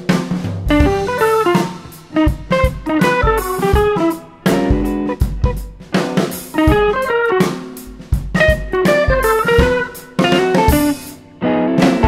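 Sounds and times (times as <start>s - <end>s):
plucked guitar with drums and bass: 0.0s - 12.0s.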